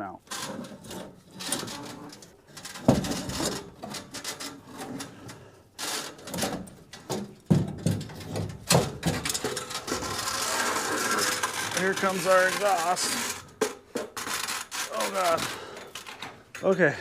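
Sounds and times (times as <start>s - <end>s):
creaks and scrapes: 0.0s - 17.0s
exhaust pipe crunching: 1.1s - 16.6s.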